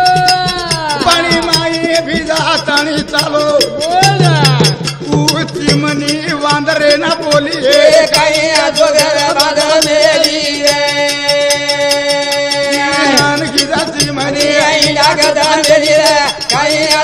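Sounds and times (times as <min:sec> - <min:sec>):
men singing: 0:00.0 - 0:17.0.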